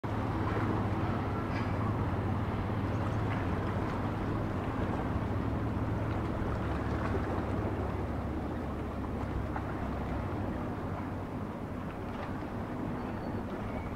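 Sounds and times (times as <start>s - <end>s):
boat engine humming: 0.0s - 13.9s.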